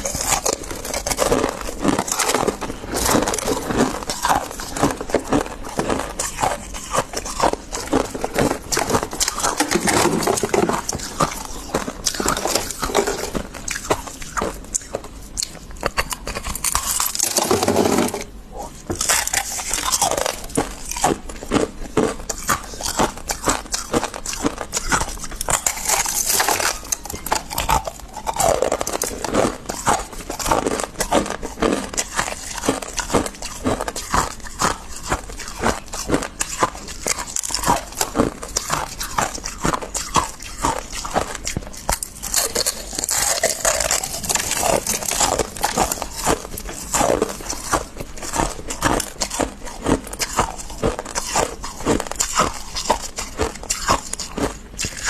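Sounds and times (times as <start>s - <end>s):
frost scraping and crunching: 0.0s - 55.0s.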